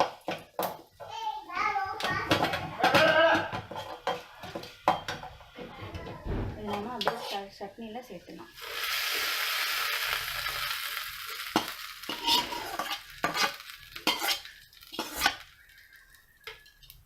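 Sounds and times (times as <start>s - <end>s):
hot oil sizzling: 0.0s - 5.7s, 6.6s - 17.0s.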